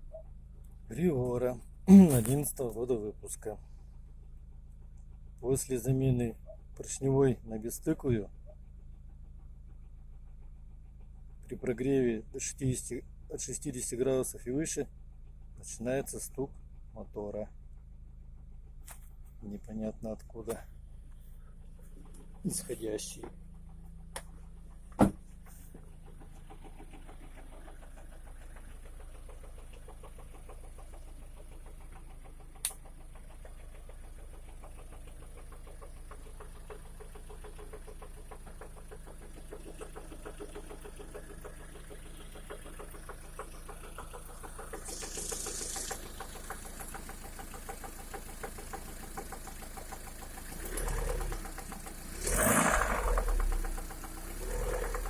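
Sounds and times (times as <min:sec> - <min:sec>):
engine idling with fast knocking: 0:00.0 - 0:55.0.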